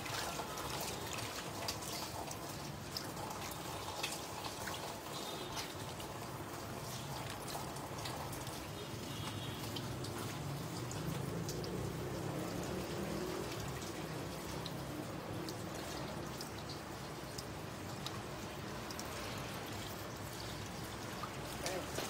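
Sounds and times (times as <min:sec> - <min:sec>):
water dripping: 0:00.0 - 0:22.0
water trickling: 0:00.0 - 0:22.0.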